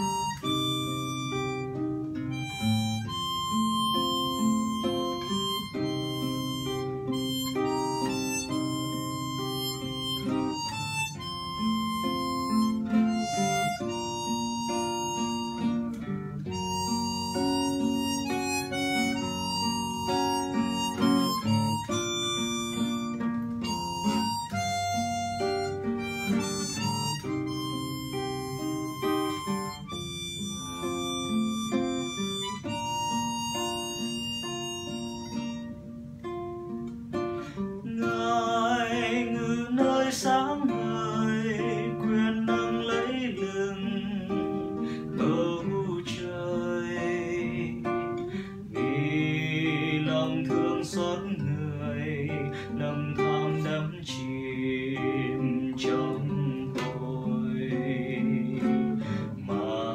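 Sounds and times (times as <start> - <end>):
harmonica playing slow melody: 0.0 - 59.9
plucked nylon-string guitar: 0.0 - 59.9.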